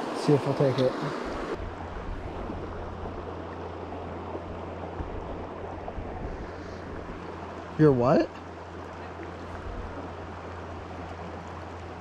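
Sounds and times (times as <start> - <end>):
creek running over rocks: 0.0 - 12.0
low steady rumble: 1.4 - 12.0.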